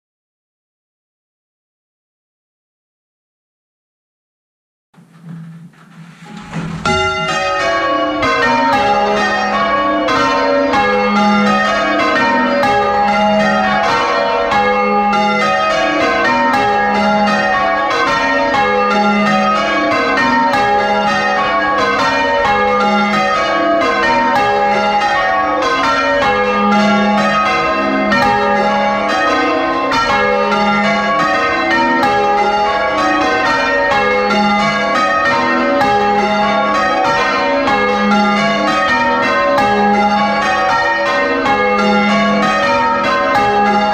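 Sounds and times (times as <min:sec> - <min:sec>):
church bells ringing changes: 0:05.2 - 0:43.9.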